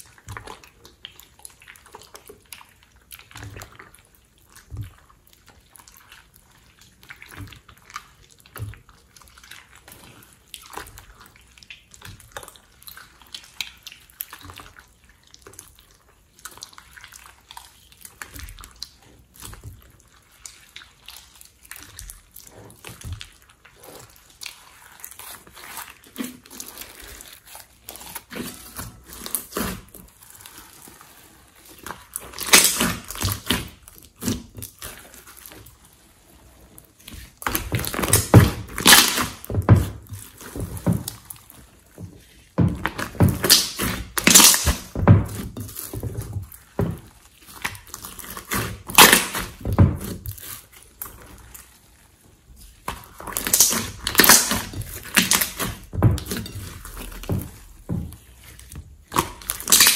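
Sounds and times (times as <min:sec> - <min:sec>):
slime squelching and clicking: 0:00.0 - 0:59.9.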